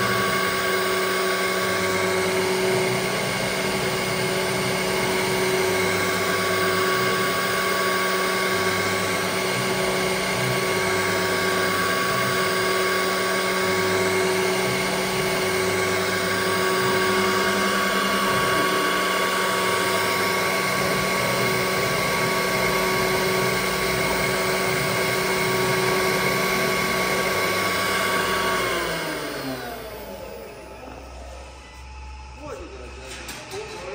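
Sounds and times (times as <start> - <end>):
spindle whine: 0.0 - 33.9.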